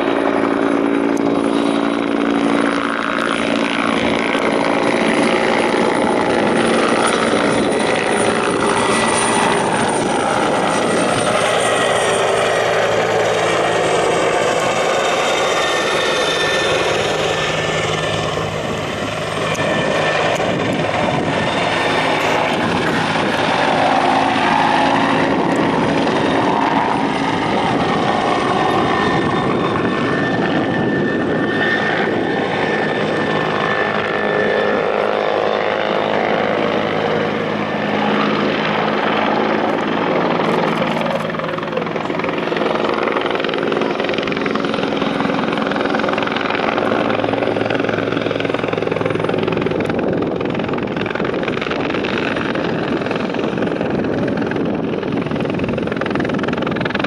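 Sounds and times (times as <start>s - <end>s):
helicopter in flight: 0.0s - 57.0s.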